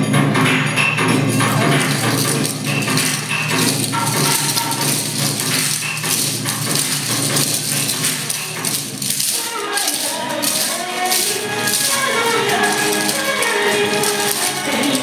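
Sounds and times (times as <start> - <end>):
dance music over loudspeakers: 0.0 - 15.0
wooden clappers clattering: 0.8 - 15.0.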